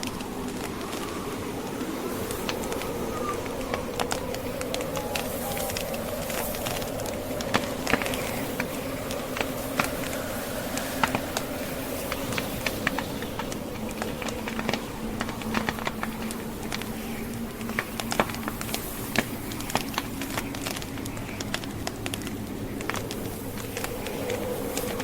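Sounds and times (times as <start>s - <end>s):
logs crackling and popping: 0.0s - 25.0s
snowstorm wind: 0.0s - 25.0s.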